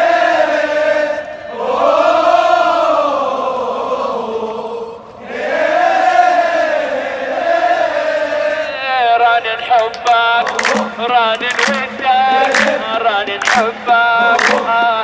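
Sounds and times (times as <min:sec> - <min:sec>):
men singing a chant in unison: 0:00.0 - 0:15.0.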